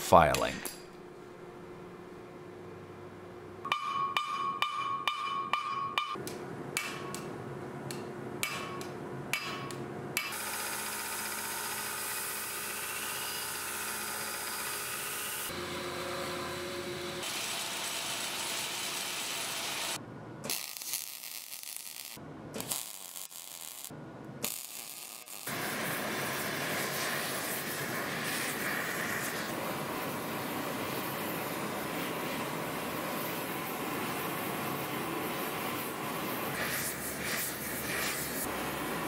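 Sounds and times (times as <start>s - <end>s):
workshop noise: 0.0s - 1.1s, 3.6s - 21.2s, 22.2s - 39.0s.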